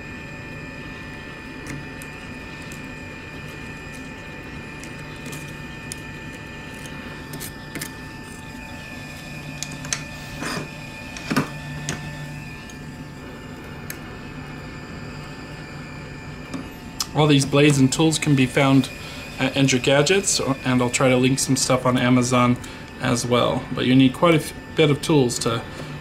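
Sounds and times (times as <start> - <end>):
hot air blower whirring: 0.0 - 26.0.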